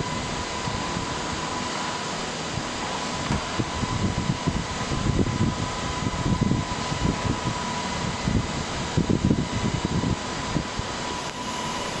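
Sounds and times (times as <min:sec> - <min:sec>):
fan-like machine noise: 0:00.0 - 0:12.0
thin whine: 0:00.0 - 0:12.0.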